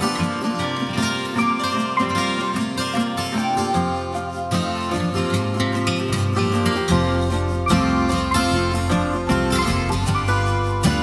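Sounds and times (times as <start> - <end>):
bass: 0.0 - 11.0
strummed acoustic guitar: 0.0 - 11.0.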